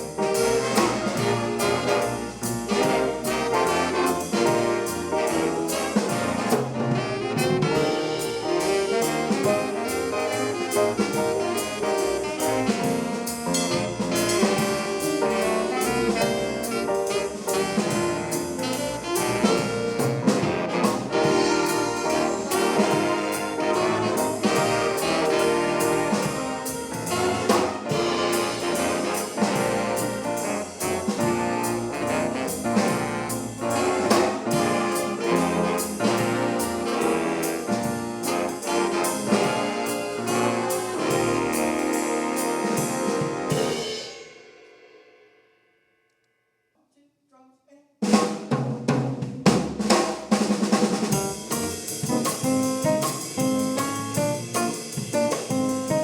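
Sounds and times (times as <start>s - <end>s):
swing band playing jazz: 0.0s - 44.3s, 48.0s - 56.0s.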